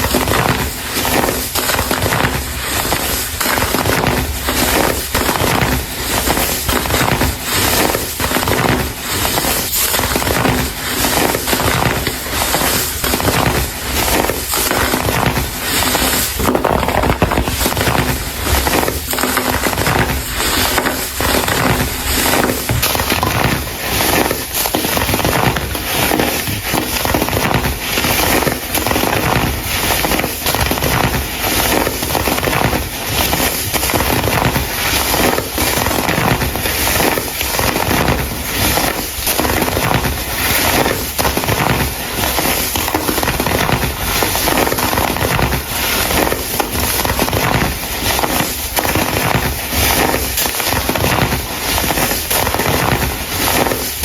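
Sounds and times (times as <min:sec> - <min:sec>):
baking soda crumble crunching: 0:00.0 - 0:54.0.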